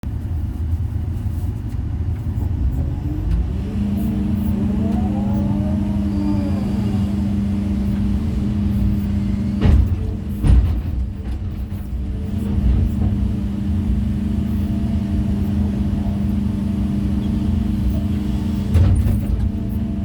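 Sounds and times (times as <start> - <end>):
excavator engine and hydraulics: 0.0 - 20.0.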